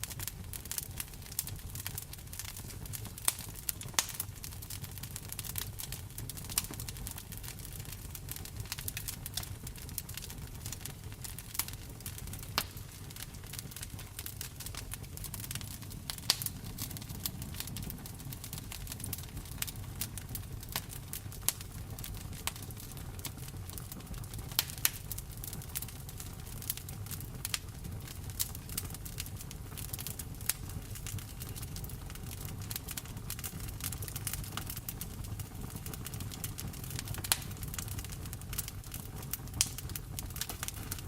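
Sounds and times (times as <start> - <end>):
wood fire crackling and popping: 0.0 - 41.0
rain pattering: 5.5 - 41.0.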